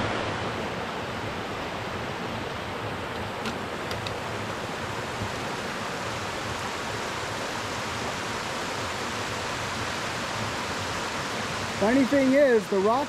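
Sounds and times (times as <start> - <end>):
creek rushing over rocks: 0.0 - 13.0.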